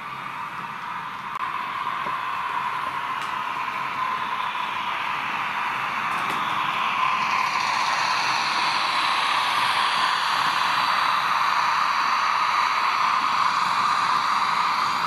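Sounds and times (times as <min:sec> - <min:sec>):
model train hissing running sound: 0:00.0 - 0:15.0.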